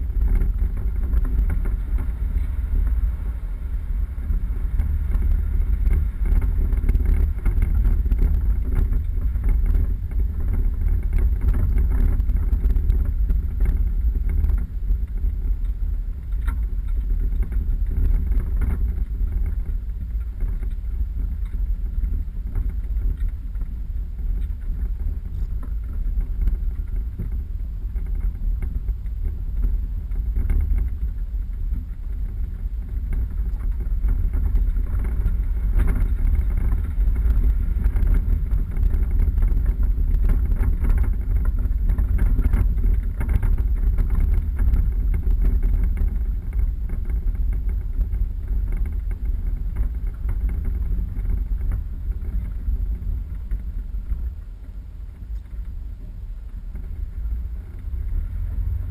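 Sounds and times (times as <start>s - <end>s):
vehicle engine rumbling off-road: 0.0s - 58.9s
wind buffeting microphone: 0.0s - 58.9s.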